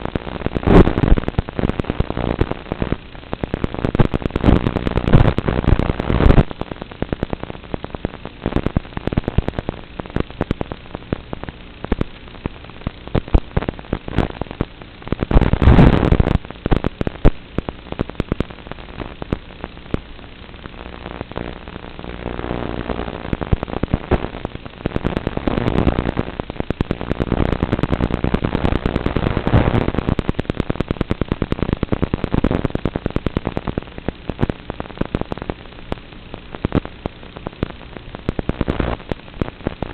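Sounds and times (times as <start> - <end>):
crackling radio static: 0.0 - 39.9.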